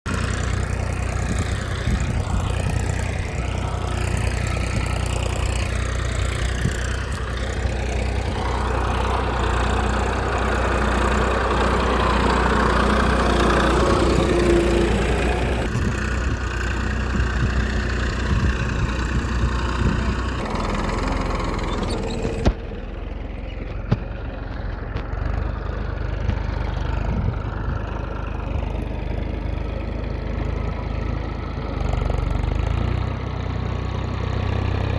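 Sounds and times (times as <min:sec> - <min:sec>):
small engine idling: 0:00.1 - 0:34.9.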